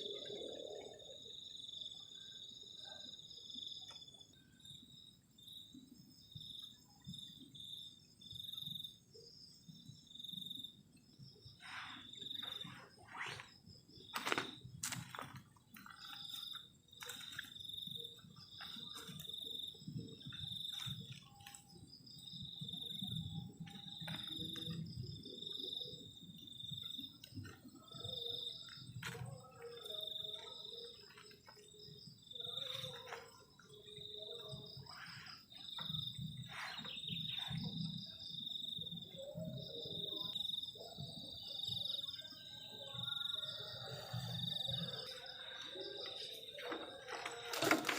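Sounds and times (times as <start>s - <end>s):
cricket chirping: 0.0s - 47.9s.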